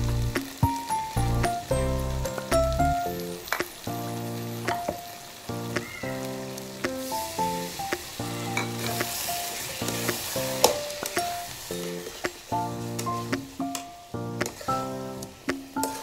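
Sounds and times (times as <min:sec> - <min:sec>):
background music melody: 0:00.0 - 0:16.0
masala sizzling in pan: 0:00.0 - 0:16.0.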